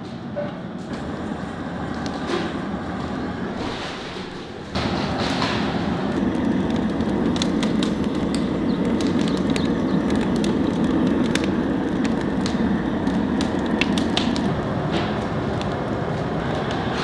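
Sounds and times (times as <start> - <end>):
wood fire burning: 0.8 - 17.0
crackles and pops of logs: 1.8 - 17.0.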